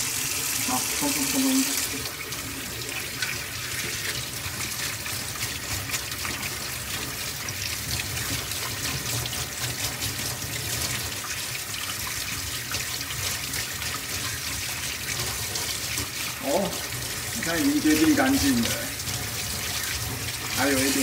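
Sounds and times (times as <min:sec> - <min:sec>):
tap water running: 0:00.0 - 0:21.0
water splashing into a steel sink: 0:00.0 - 0:21.0.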